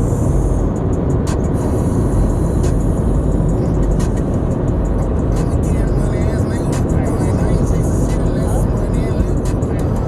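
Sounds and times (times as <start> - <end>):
car interior road and engine noise: 0.0 - 10.0.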